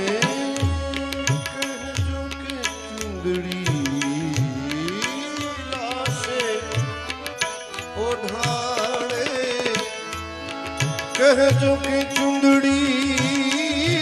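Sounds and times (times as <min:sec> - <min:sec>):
tabla beat: 0:00.0 - 0:14.0.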